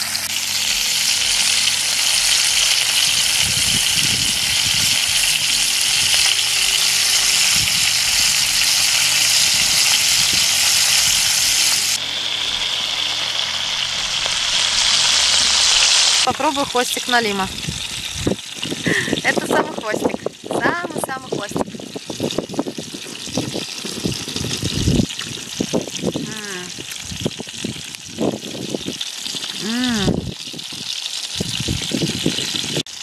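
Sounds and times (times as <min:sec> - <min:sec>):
fish sizzling in a pan: 0:00.0 - 0:33.0.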